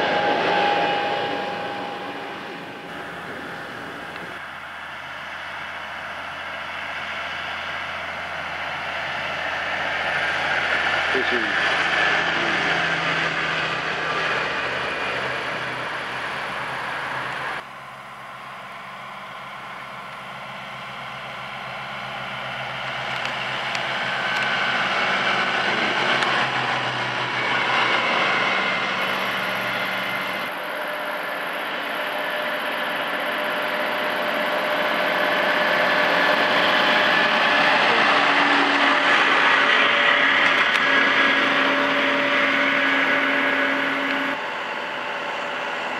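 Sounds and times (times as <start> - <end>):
diesel engine and tyre noise: 0.0 - 45.9
tractors driving past: 0.0 - 45.9.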